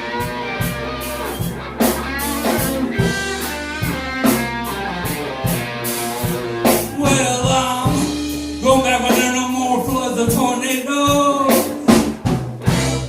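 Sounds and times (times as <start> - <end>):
blues band playing: 0.0 - 13.0
drum and cymbal hits: 0.0 - 13.0
lead guitar bending notes: 0.0 - 13.0.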